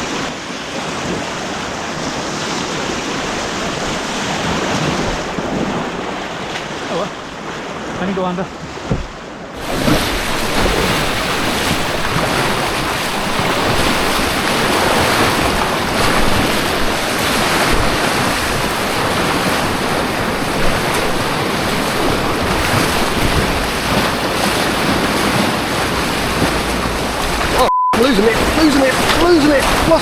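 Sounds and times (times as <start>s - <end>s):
rushing white water: 0.0s - 30.0s.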